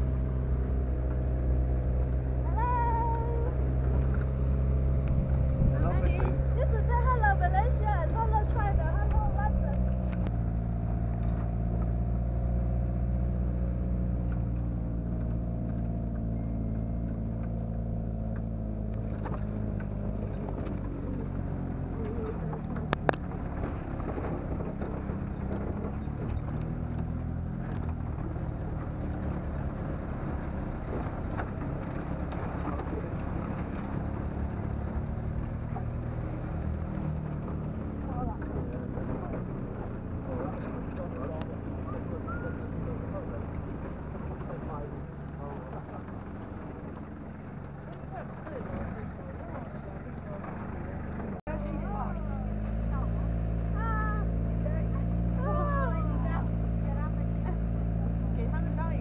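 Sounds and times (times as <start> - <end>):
truck bed rattling: 0.0 - 52.0
truck engine running uphill: 0.0 - 59.0.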